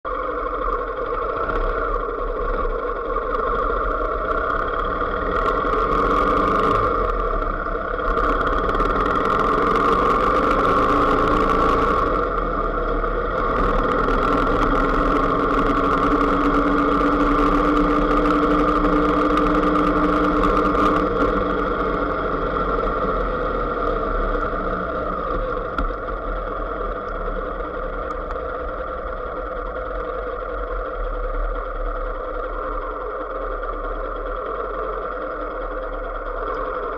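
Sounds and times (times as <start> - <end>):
road and wind noise: 0.0 - 36.9
vehicle engine running: 0.0 - 36.9.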